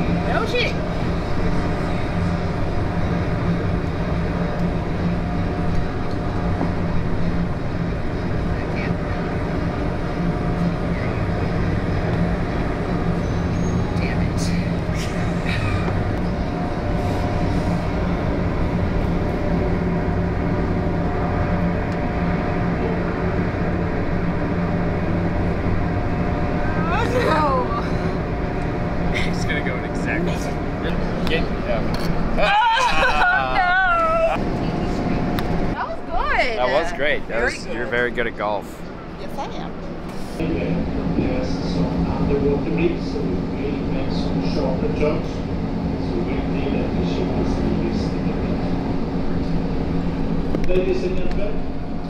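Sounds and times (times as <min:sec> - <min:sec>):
ship machinery droning: 0:00.0 - 0:52.0.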